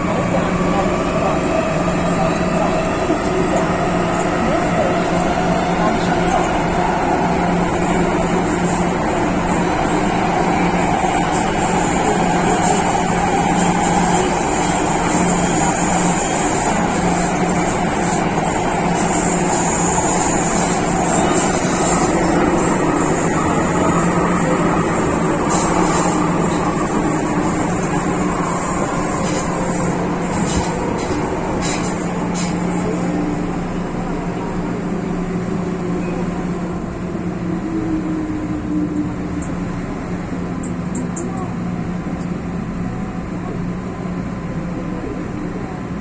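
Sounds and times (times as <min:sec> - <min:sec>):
train wheels on rail: 0:00.0 - 0:46.0.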